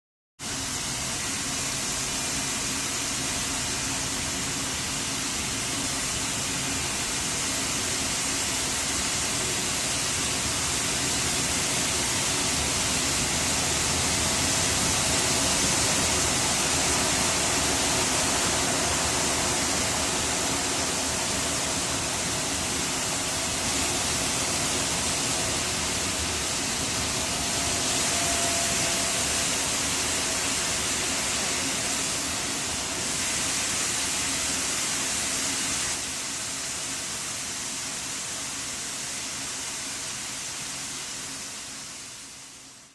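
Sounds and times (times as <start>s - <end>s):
steam hissing: 0.4s - 42.9s.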